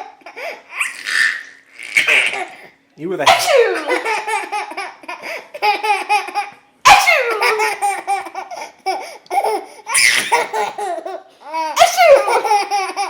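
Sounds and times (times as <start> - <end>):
baby belly-laughing: 0.0 - 2.7, 3.3 - 13.0.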